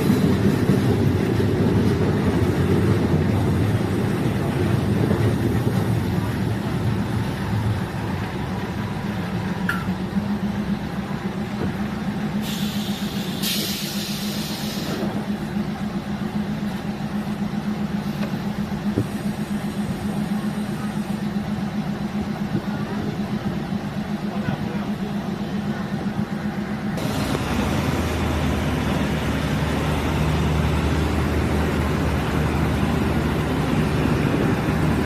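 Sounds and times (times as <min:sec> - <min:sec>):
railcar engine droning: 0:00.0 - 0:35.0.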